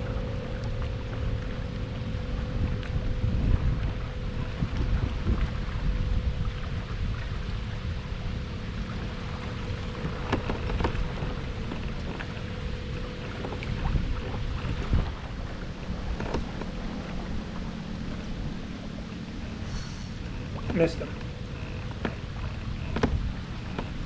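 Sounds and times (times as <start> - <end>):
faint steady hum: 0.0 - 24.0
wind buffeting microphone: 0.0 - 24.0.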